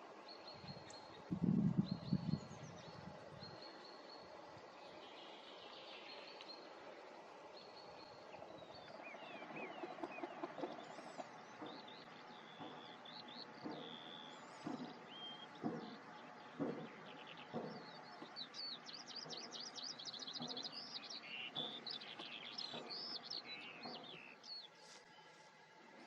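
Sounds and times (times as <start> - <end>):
small birds calling: 0.0 - 25.5.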